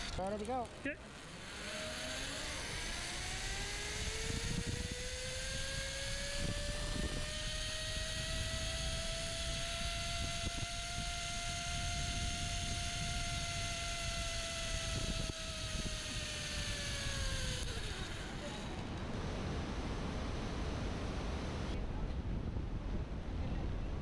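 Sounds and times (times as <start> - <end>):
zip-line pulleys whining: 0.0 - 21.8
wind rumble on microphone: 2.2 - 24.0.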